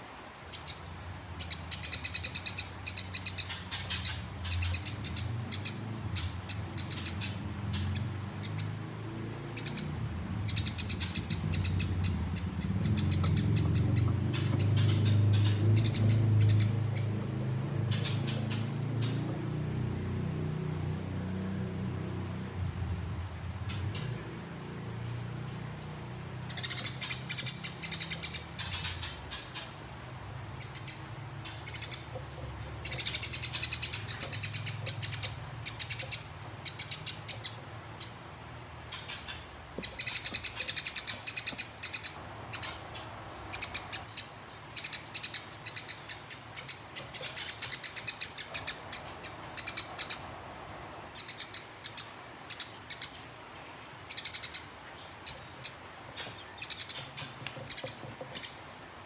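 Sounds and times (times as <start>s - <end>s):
sparrows chattering: 0.0s - 59.0s.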